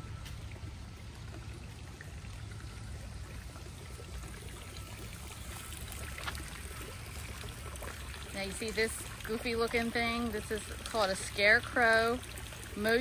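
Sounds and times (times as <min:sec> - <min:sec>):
waterfall splashing into pond: 0:00.0 - 0:13.0.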